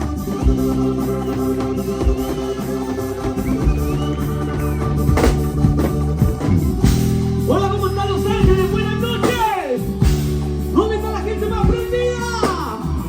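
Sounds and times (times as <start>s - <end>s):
live band sustained chords: 0.0s - 13.0s.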